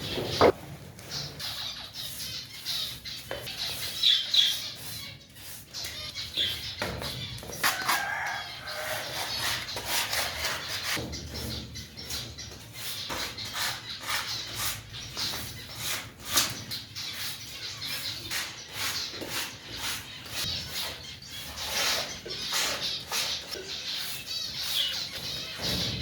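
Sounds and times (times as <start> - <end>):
caged birds calling: 0.0 - 26.0
knocks and scrapes of cage cleaning: 0.0 - 26.0.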